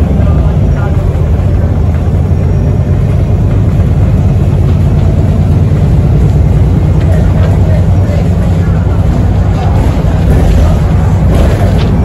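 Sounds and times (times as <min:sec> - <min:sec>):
bus diesel engine drone: 0:00.0 - 0:12.0
turbocharger whine: 0:00.0 - 0:12.0.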